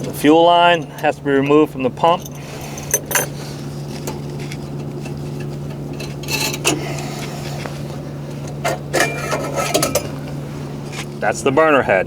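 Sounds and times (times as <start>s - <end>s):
metal tools clinking and scraping: 0.0s - 11.3s
steady low hum: 0.0s - 12.0s.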